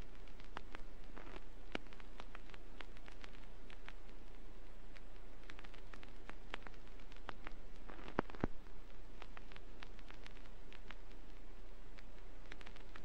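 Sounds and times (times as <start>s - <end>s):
vinyl crackles and pops: 0.0s - 13.0s
vinyl surface hiss: 0.0s - 13.0s.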